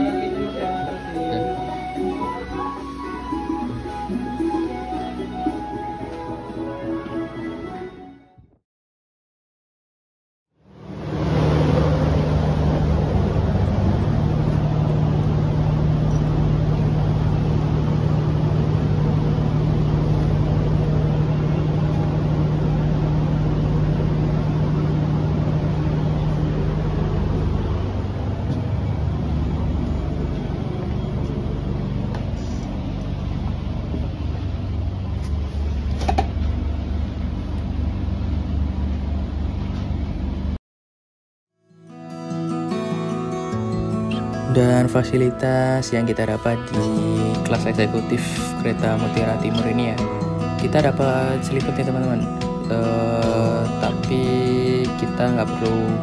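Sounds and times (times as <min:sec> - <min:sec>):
diesel train humming: 0:00.0 - 0:08.2, 0:10.6 - 0:40.6, 0:42.3 - 0:56.0.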